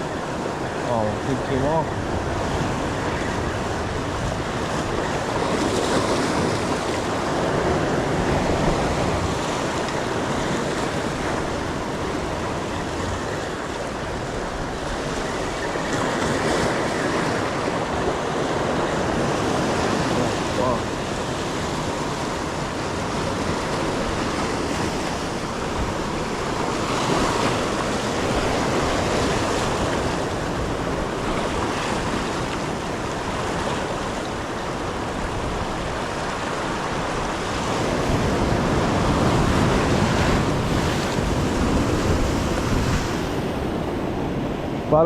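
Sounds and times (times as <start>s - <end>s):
ocean surf washing on shore: 0.0s - 45.0s.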